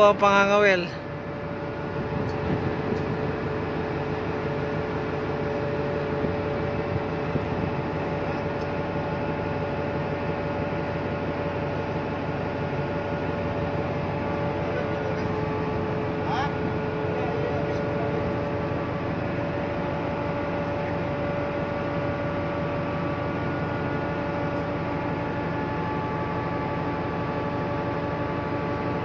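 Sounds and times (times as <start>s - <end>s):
ship machinery humming: 0.0s - 29.0s.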